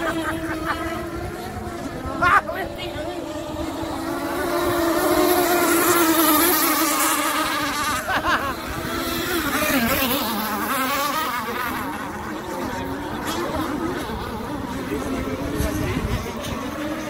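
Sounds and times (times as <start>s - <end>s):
model boat engines whining: 0.0s - 17.0s.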